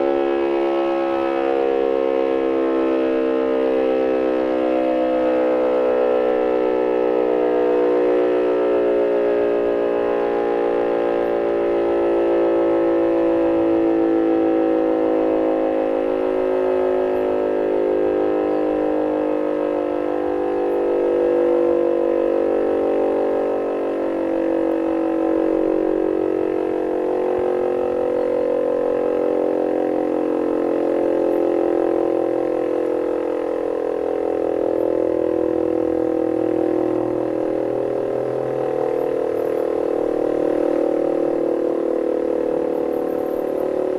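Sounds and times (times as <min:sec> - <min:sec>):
air-raid siren wavering tone: 0:00.0 - 0:43.9.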